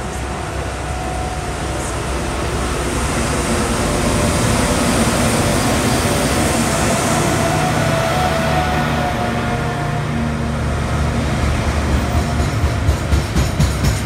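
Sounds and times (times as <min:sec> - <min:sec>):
diesel locomotive engines running: 0:00.0 - 0:14.0
freight train rumble: 0:00.0 - 0:14.0.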